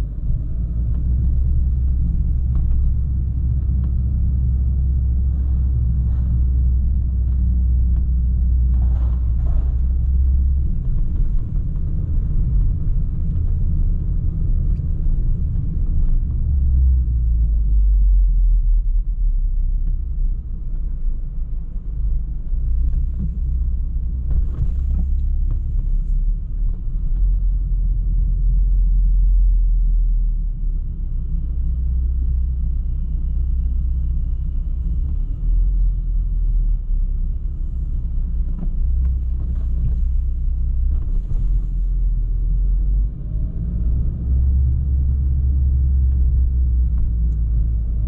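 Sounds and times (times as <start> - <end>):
car engine low rumble: 0.0 - 48.0.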